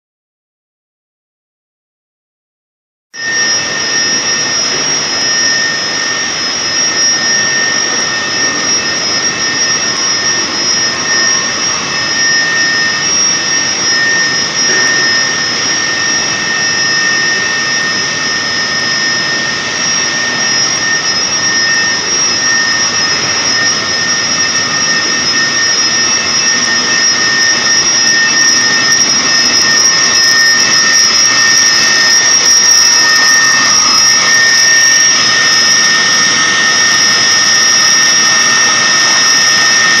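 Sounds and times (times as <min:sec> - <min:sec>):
high machine whine: 0:03.2 - 0:40.0
machinery noise: 0:03.2 - 0:40.0.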